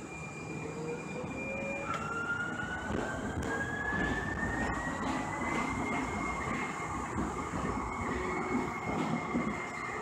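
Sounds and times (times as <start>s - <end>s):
electric train drive whining: 0.0s - 10.0s.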